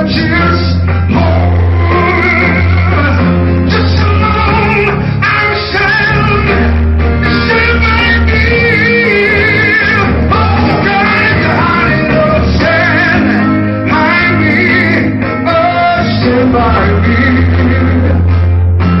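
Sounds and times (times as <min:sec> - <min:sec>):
man singing: 0:00.0 - 0:18.3
electric and acoustic guitars: 0:00.0 - 0:19.0
low bass line: 0:00.0 - 0:19.0.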